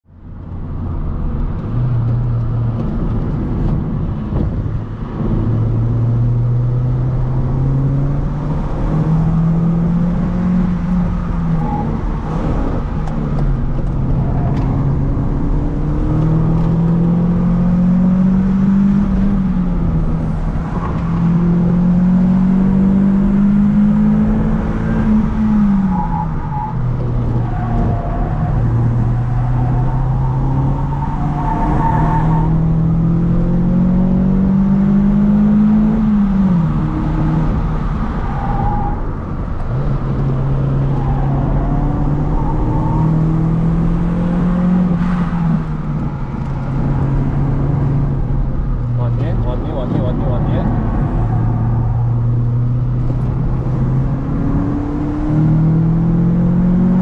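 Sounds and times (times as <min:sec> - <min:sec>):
car engine revving: 0:00.6 - 0:57.0.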